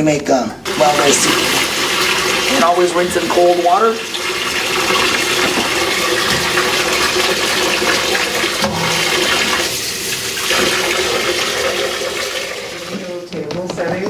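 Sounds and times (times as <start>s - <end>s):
water running from a tap: 0.6s - 13.3s.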